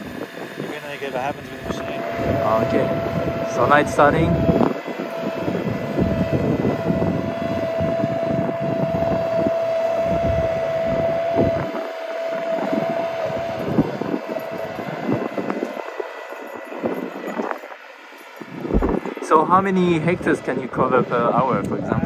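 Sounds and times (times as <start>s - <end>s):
robot machine whine: 0.0s - 22.0s.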